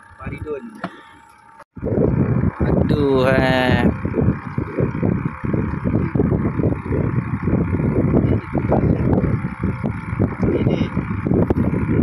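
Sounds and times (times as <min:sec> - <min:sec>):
wind buffeting microphone: 0:01.8 - 0:12.0.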